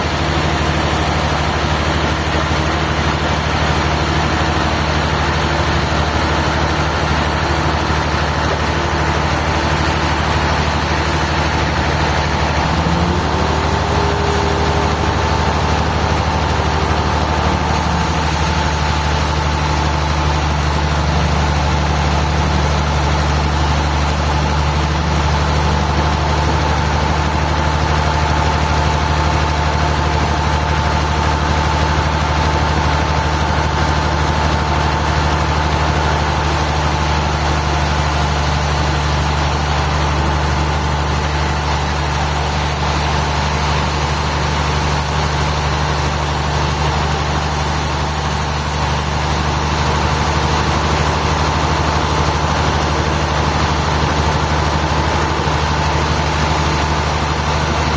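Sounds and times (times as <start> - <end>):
sawmill engine hum: 0.0 - 57.9.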